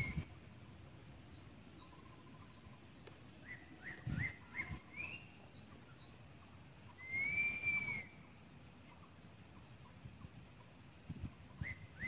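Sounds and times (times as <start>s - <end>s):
wild bird chirping and whistling: 0.0s - 12.0s.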